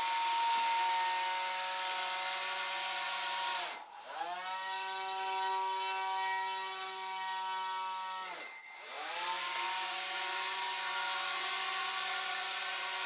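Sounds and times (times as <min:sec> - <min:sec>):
small electric motor whine: 0:00.0 - 0:13.0.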